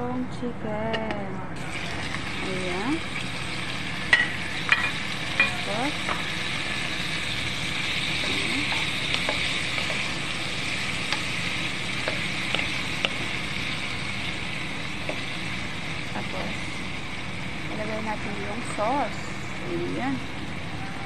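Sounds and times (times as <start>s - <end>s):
chicken sizzling in oil: 1.6s - 20.7s.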